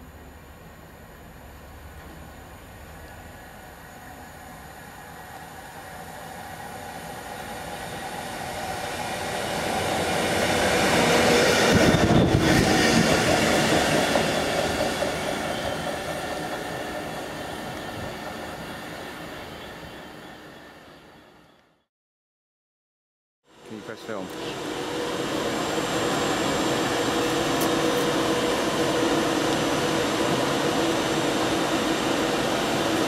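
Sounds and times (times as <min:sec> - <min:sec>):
diesel locomotive passing: 0:00.0 - 0:21.8, 0:23.5 - 0:33.0
train wheel noise: 0:01.3 - 0:21.6, 0:23.6 - 0:33.0.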